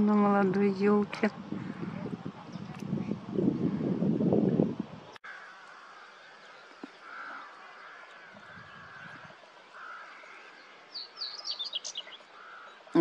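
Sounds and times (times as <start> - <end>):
distant birds calling: 0.0 - 4.1, 5.1 - 13.0.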